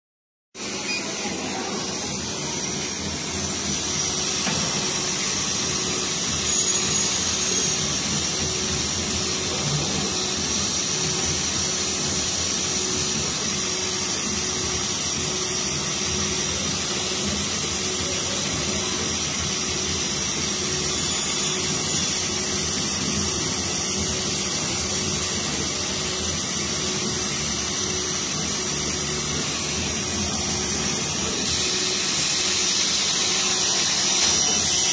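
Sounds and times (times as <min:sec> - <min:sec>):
laser engraver humming: 0:00.6 - 0:34.9.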